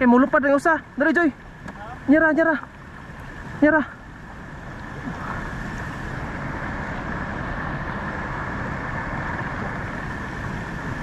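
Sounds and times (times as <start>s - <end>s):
water rushing down a creek: 0.0s - 11.0s.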